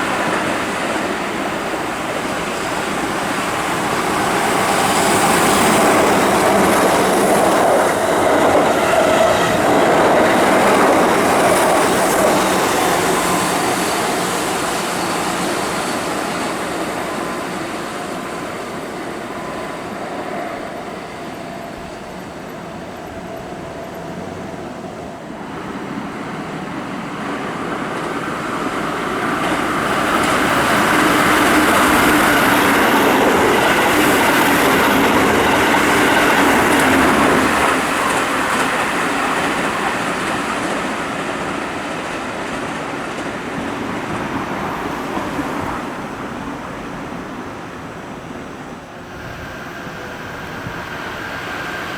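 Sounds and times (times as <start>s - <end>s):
electric train approaching: 0.0s - 51.9s
electric train passing: 0.0s - 51.9s
train wheels clattering on rails: 0.0s - 51.9s.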